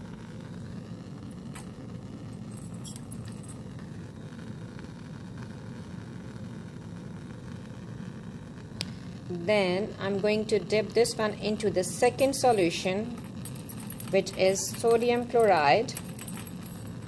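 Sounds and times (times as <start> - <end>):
burner flame rushing: 0.0 - 17.0.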